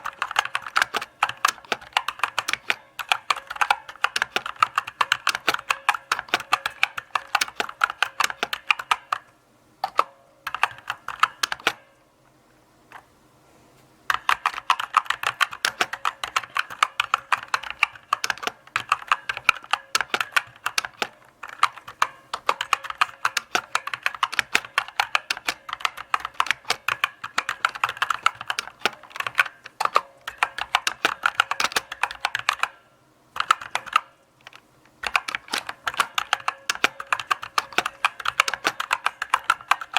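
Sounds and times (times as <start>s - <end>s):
mechanical keyboard typing: 0.0s - 11.9s, 14.1s - 32.8s, 33.4s - 39.9s.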